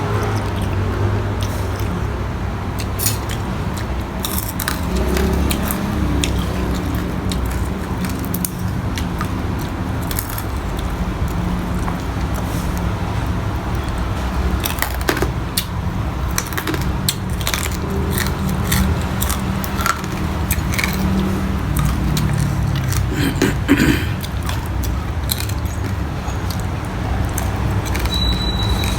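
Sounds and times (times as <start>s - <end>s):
chewing and biting: 0.0s - 2.1s, 2.7s - 28.9s.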